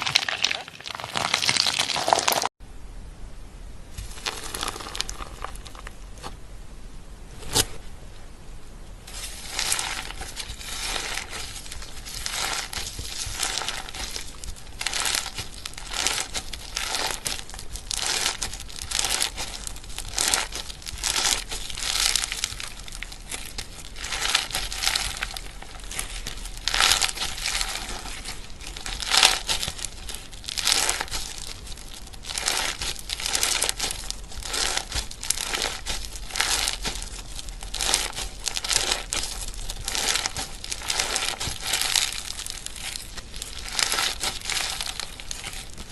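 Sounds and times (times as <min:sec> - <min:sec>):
slime crackling and popping: 0:00.0 - 0:02.5, 0:04.0 - 0:06.3, 0:09.1 - 0:45.9.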